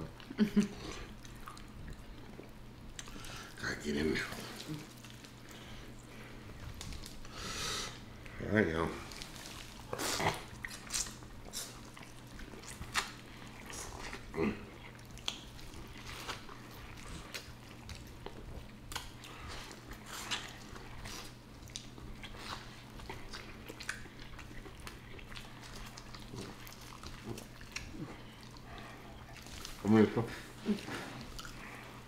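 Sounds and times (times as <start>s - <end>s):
wet chewing and smacking: 0.0s - 7.4s, 9.0s - 32.0s
low steady hum: 0.0s - 32.0s.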